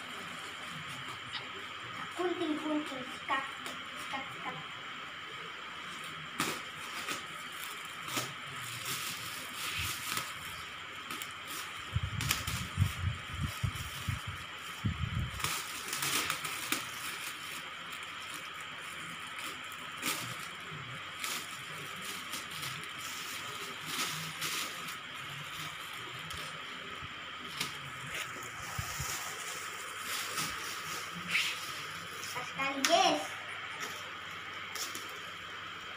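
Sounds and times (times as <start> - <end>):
steady hiss: 0.0 - 35.9
plastic bag rustling and crinkling: 6.1 - 35.3.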